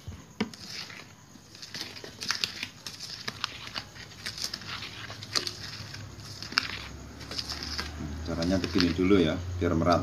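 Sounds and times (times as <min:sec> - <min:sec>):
batter stirred in a bowl: 0:00.0 - 0:10.0.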